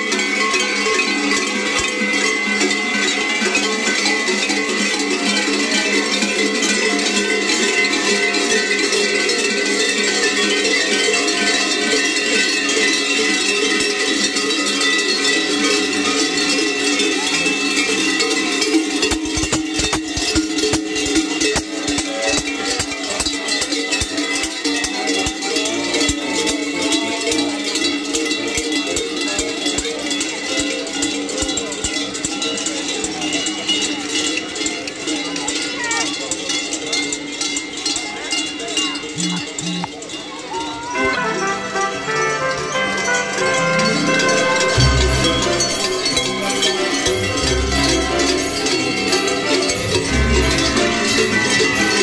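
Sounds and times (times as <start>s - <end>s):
large cowbells clanging: 0.0s - 52.0s.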